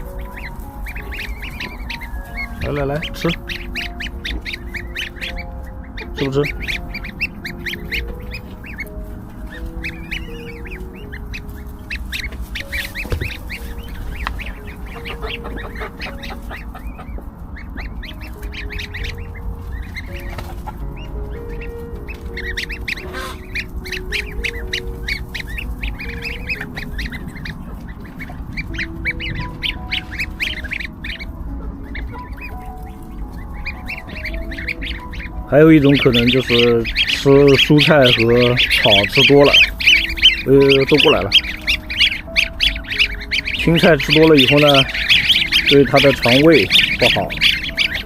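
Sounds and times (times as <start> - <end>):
goslings peeping: 0.0 - 48.0.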